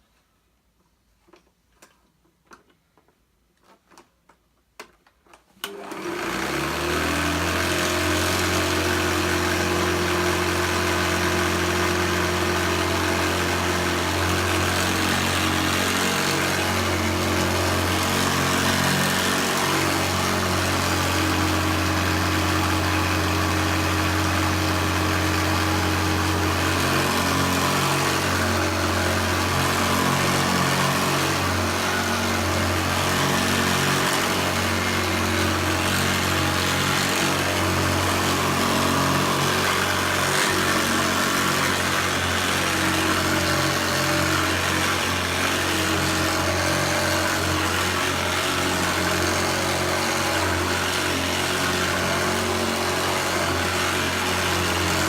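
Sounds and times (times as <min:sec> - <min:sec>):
vacuum cleaner motor humming: 0:05.6 - 0:55.0.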